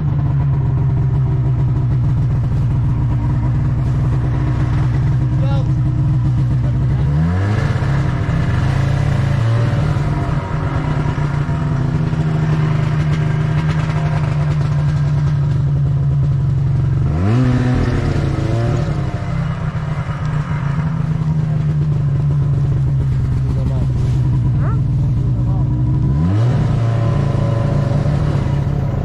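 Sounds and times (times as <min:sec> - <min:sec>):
snowmobile engine revving: 0:02.4 - 0:15.6, 0:16.8 - 0:29.0.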